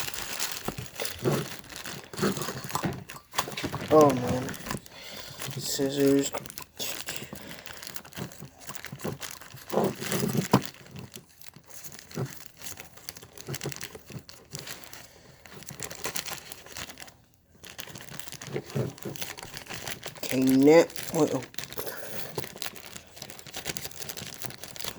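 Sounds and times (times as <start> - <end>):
packaging crinkling and tearing: 0.0 - 24.9.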